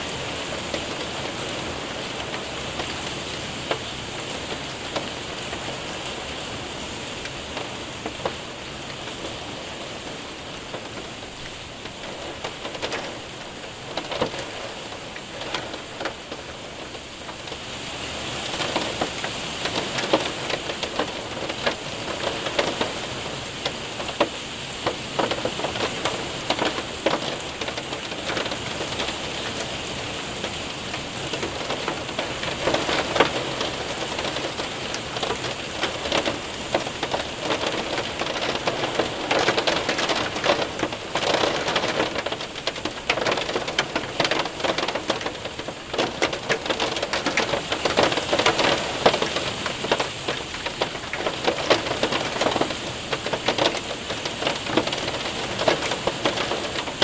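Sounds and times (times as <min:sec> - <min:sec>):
hail ticking on window: 0:00.0 - 0:57.0
rain rushing: 0:00.0 - 0:57.0.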